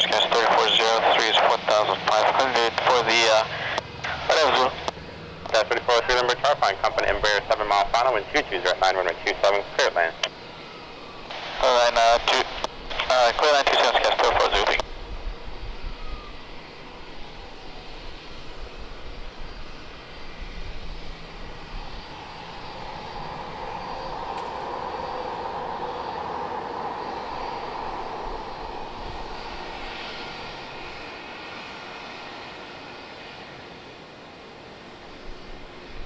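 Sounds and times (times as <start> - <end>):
jet airliner engines passing: 0.0 - 36.0.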